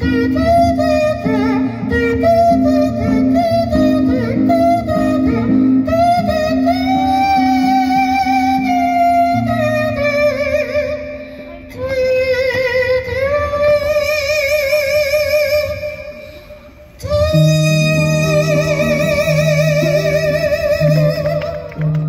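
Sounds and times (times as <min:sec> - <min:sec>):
guitar accompaniment: 0:00.0 - 0:22.0
woman singing with vibrato: 0:00.0 - 0:22.0.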